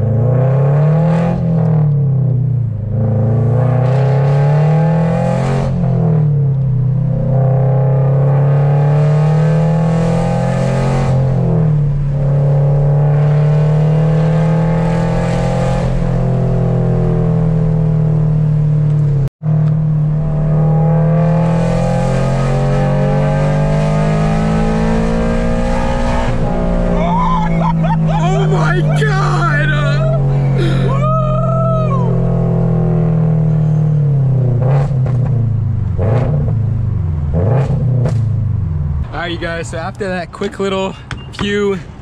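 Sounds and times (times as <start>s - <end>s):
car engine exhaust while driving: 0.0s - 42.0s.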